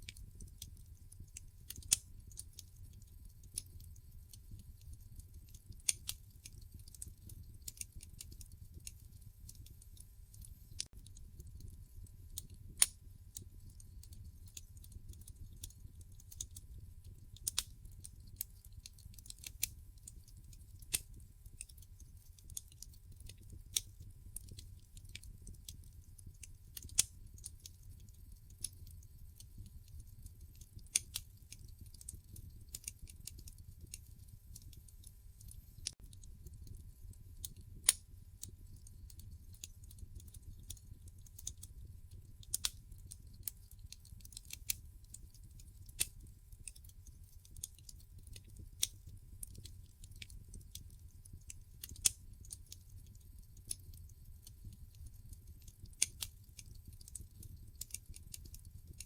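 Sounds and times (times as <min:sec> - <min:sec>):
log fire crackling: 0:00.0 - 0:59.0.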